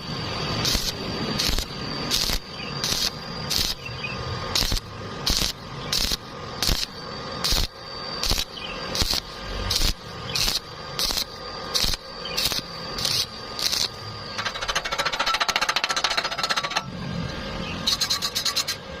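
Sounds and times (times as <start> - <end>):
electric welding arc crackling: 0.0 - 16.9.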